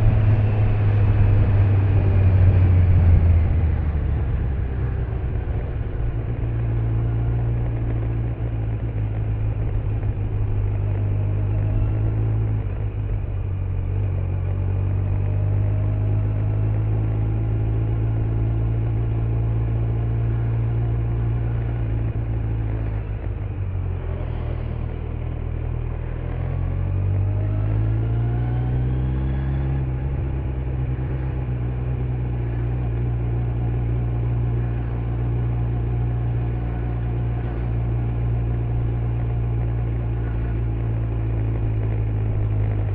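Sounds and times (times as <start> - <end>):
motorcycle engine running: 0.0 - 42.9
tyre and road noise: 0.0 - 42.9.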